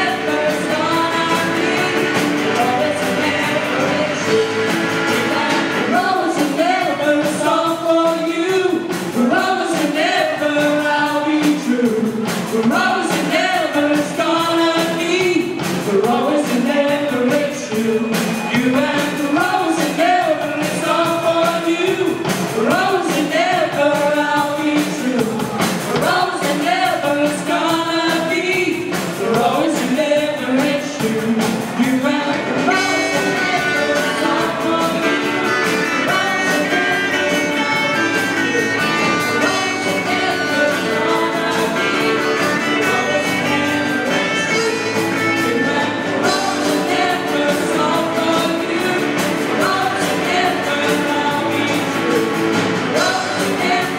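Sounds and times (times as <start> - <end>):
rock band playing: 0.0 - 53.9
woman singing: 0.0 - 53.9.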